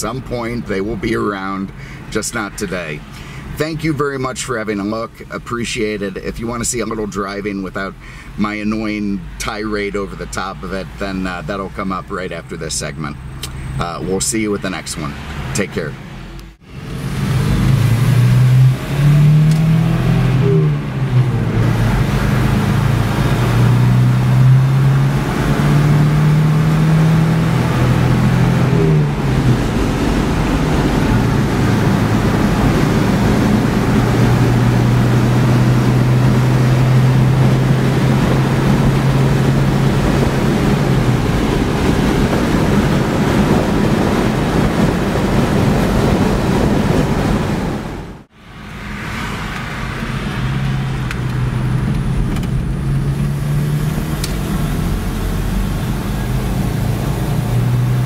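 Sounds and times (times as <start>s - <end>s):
road and wind noise: 0.0s - 58.0s
pickup engine accelerating: 9.2s - 58.0s.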